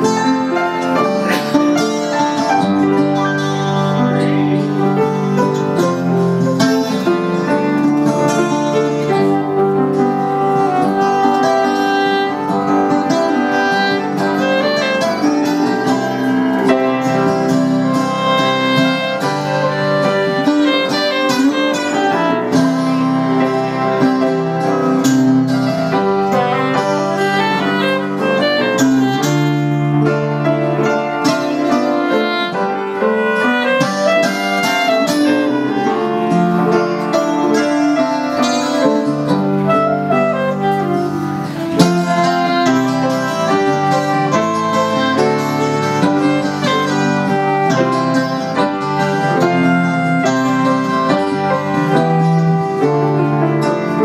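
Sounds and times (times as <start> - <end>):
electric guitar: 0.0 - 54.0
keyboard playing: 0.0 - 54.0
soprano saxophone: 6.8 - 54.0.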